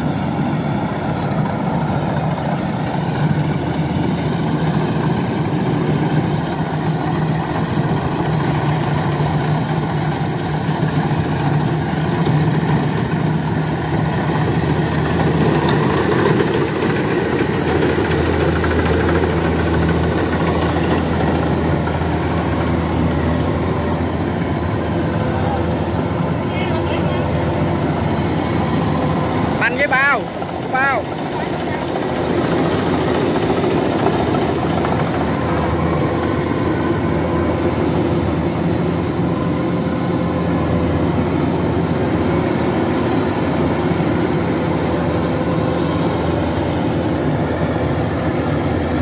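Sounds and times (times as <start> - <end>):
diesel engine running under load: 0.0 - 49.0.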